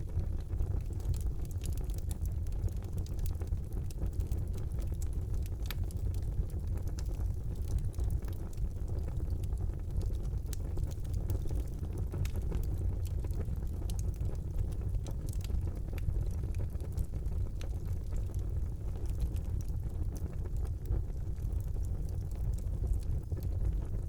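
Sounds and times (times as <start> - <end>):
rumble of fire flames: 0.0 - 24.0
wood fire crackling and popping: 0.0 - 24.0.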